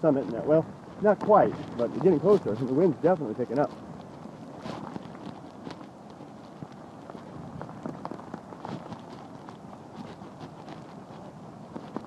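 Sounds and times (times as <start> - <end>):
footsteps walking: 0.0 - 12.0
wind noise: 0.0 - 12.0.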